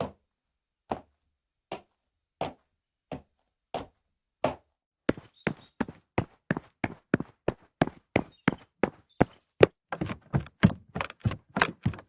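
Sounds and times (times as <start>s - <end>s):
footsteps on hard surface: 0.9s - 12.0s.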